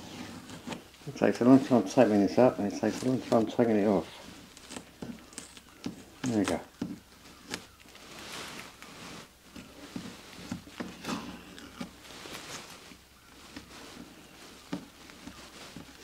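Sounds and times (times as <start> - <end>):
masking tape peeling and crackling: 0.0 - 16.0.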